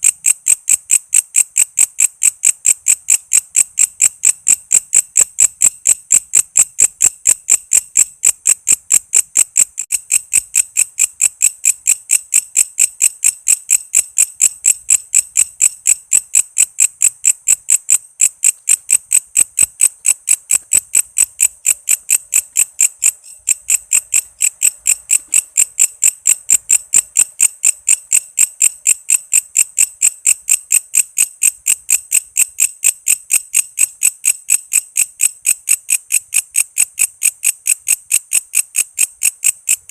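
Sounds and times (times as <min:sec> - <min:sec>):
insect chirping: 0:00.0 - 0:33.9.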